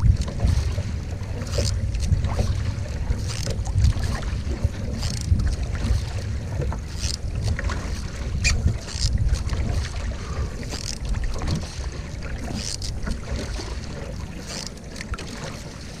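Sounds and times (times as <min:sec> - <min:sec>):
wind on microphone: 0:00.0 - 0:13.6
canoe paddle splashing: 0:00.0 - 0:16.0.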